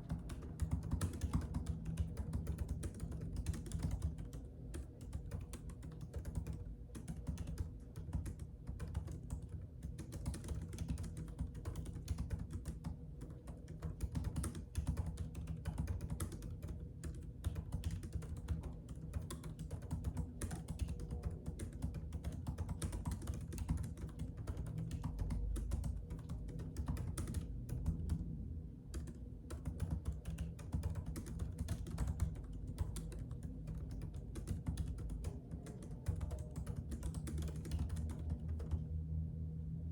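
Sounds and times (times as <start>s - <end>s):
computer keyboard typing: 0.0s - 28.3s, 28.9s - 38.9s.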